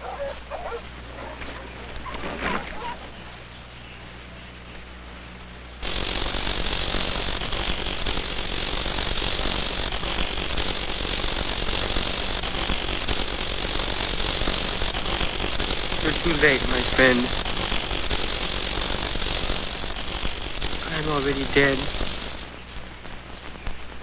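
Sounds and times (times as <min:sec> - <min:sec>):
low mains hum: 0:00.0 - 0:24.0
steady hiss: 0:00.0 - 0:24.0.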